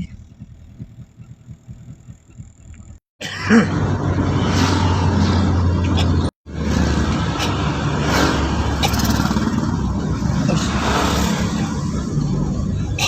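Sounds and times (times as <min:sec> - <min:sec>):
engine hum and road noise: 0:00.0 - 0:13.0.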